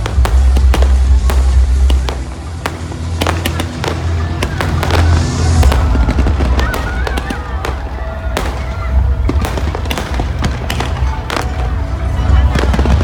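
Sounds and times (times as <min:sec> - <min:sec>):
deep rumble: 0:00.0 - 0:13.0
fireworks bangs and crackles: 0:00.0 - 0:13.0.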